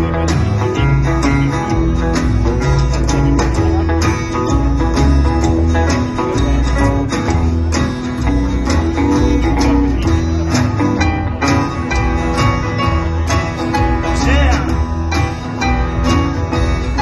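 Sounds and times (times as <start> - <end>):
country band playing: 0.0 - 17.0.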